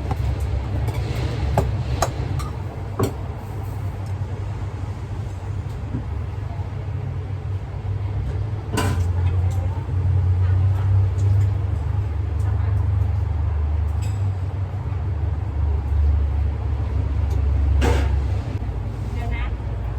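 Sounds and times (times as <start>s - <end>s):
low engine rumble: 0.0s - 19.9s.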